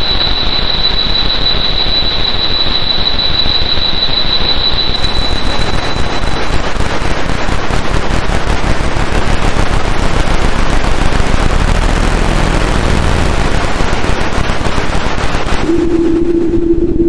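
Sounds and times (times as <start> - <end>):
synthesizer noise texture crackling: 0.0 - 17.0
low synthesizer drone: 2.8 - 17.0.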